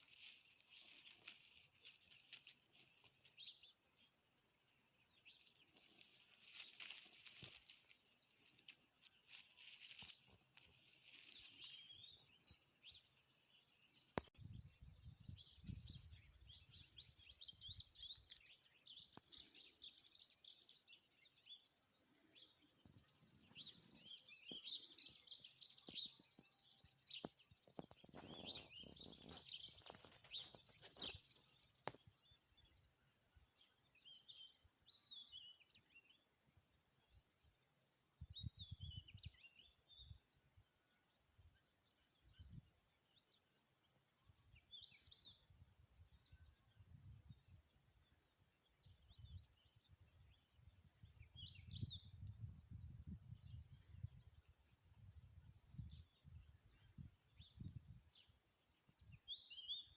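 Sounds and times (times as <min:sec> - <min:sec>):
birds chirping and singing: 0:00.0 - 0:36.2, 0:38.2 - 0:59.9.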